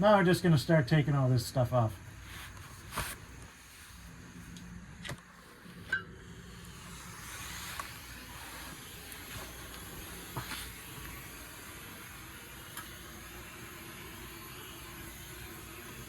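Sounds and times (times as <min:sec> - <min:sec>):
propane torch hissing: 0:00.0 - 0:16.0.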